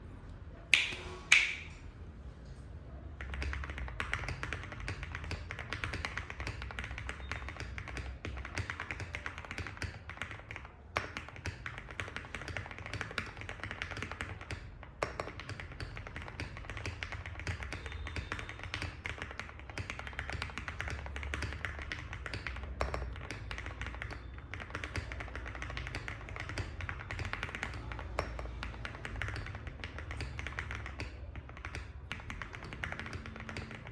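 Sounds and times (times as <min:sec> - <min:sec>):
mechanical keyboard typing: 0:03.1 - 0:33.9.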